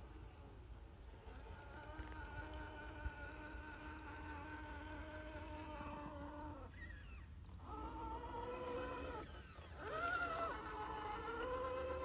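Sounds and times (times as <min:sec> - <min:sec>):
rc truck motor whining: 0:01.8 - 0:12.0.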